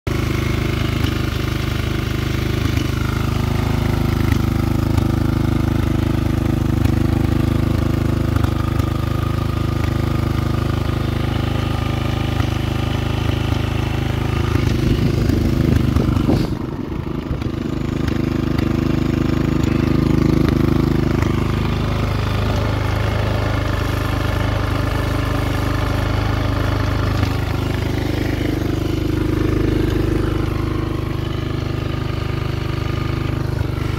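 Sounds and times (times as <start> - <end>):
atv engine idling: 0.1 - 33.9.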